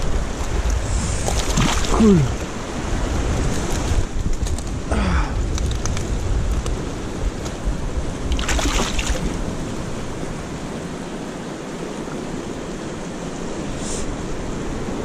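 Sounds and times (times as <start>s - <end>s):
surf washing over rocks: 0.0s - 15.0s
wind buffeting microphone: 0.0s - 15.0s.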